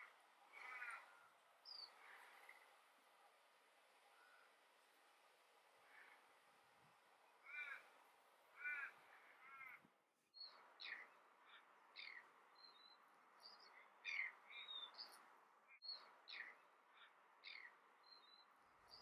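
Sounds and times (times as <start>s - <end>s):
faint bird calls: 0.0s - 19.0s.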